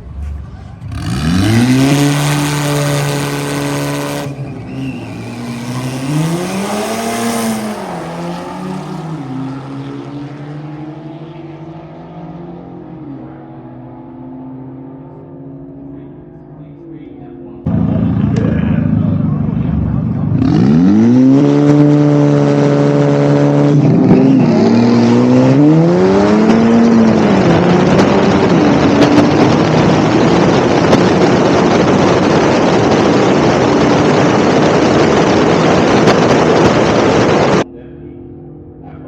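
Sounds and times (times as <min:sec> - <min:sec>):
loud rushing noise: 0:00.0 - 0:11.8, 0:17.7 - 0:37.7
race car engine revving: 0:00.0 - 0:39.0.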